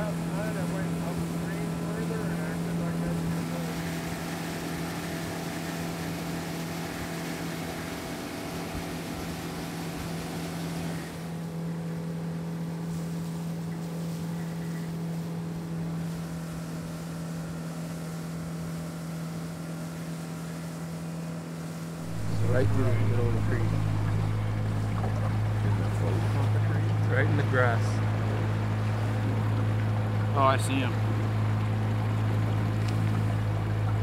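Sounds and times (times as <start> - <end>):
jet boat engine drone: 0.0 - 34.0.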